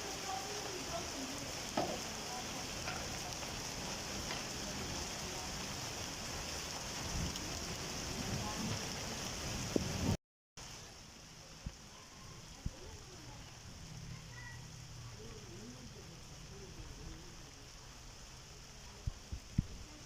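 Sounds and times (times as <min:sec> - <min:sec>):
heavy rain hiss: 0:00.0 - 0:20.0
raindrops tapping surfaces: 0:00.0 - 0:20.0.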